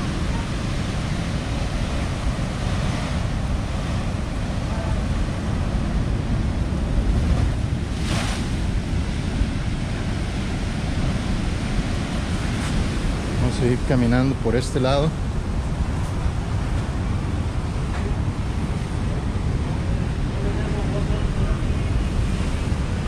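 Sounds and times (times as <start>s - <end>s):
storm surf breaking and rumbling: 0.0s - 23.0s
wave rushing splash: 0.0s - 23.0s
wind buffeting microphone: 0.0s - 23.0s.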